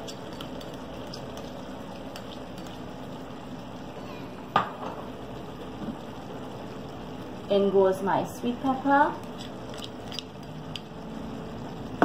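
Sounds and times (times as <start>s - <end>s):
pot simmering with low hiss: 0.0s - 12.0s.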